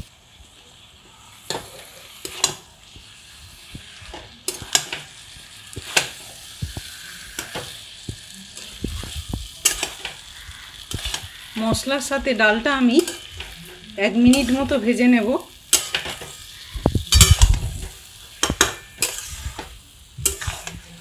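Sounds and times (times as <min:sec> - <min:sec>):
food sizzling: 0:00.0 - 0:21.0
spatula scraping metal pan: 0:01.5 - 0:21.0.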